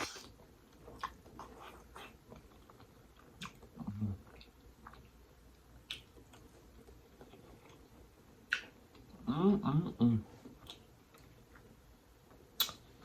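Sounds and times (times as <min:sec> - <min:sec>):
person chewing with wet smacks: 0:00.0 - 0:09.3, 0:10.4 - 0:13.0.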